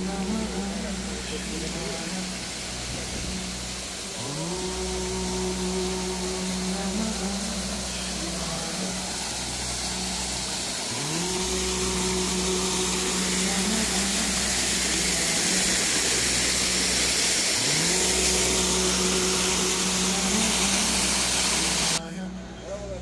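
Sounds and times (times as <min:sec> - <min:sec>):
engine running: 0:00.0 - 0:22.0
steady hiss: 0:00.0 - 0:22.0.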